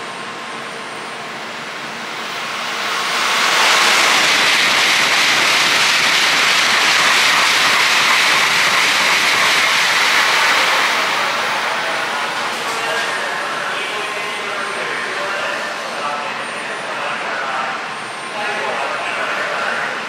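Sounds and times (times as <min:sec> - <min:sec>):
high-speed train rushing past: 0:00.0 - 0:20.0.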